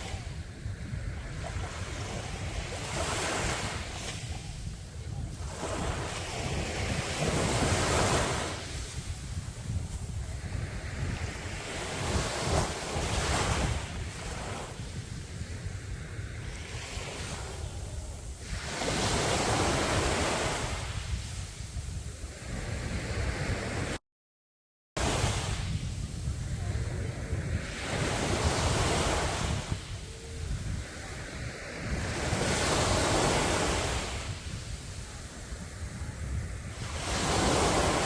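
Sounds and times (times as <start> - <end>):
sea waves breaking on beach: 0.0 - 24.0, 25.0 - 38.0
wind rumble on microphone: 0.0 - 24.0, 25.0 - 38.0.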